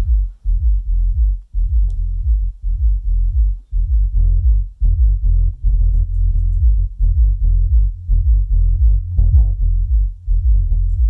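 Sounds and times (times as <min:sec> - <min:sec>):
deep pulsing electronic bass: 0:00.0 - 0:11.0.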